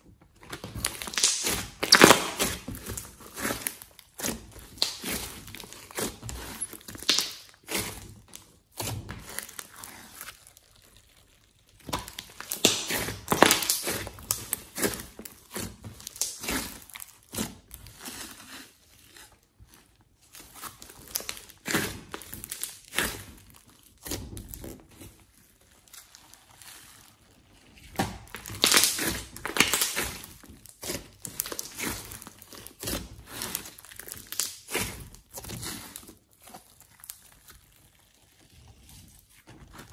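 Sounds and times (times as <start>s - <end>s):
slime squelching and crackling: 0.0s - 39.9s.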